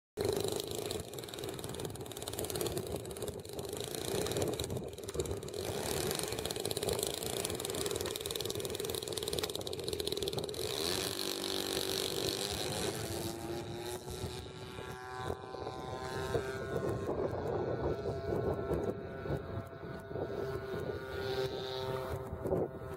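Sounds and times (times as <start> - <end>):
model plane motor and propeller: 0.2 - 22.9.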